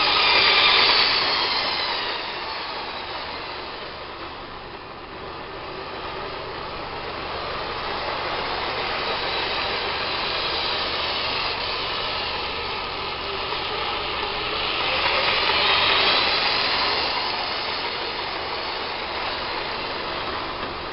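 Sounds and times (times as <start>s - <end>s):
model train running on track: 0.0s - 20.9s.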